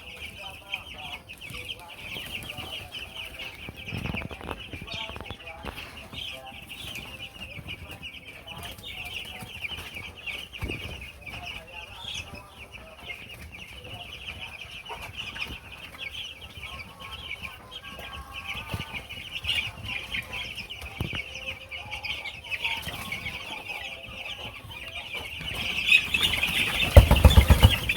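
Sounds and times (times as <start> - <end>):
chickens clucking and cheeping: 0.0 - 27.9.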